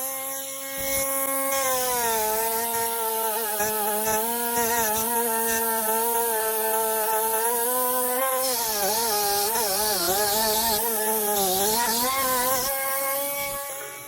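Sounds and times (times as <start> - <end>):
electric grinder whining on metal: 0.0 - 14.0.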